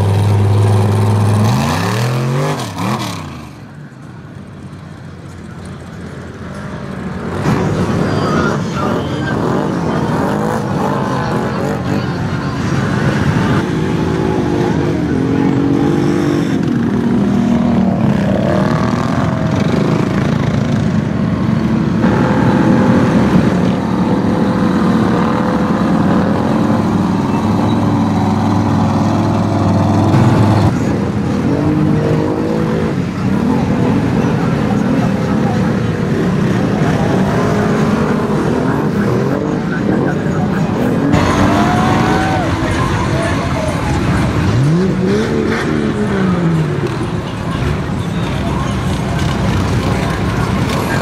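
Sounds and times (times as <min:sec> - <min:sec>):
off-road vehicle engines revving: 0:00.0 - 0:51.0.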